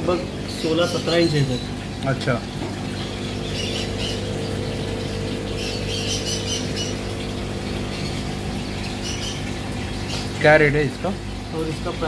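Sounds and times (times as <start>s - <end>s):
aquarium pumps humming: 0.0s - 12.0s
birds chirping: 0.0s - 12.0s.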